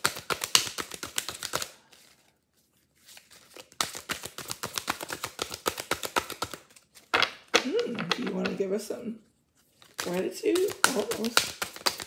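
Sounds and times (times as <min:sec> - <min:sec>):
cards being shuffled: 0:00.0 - 0:08.7, 0:09.5 - 0:12.0.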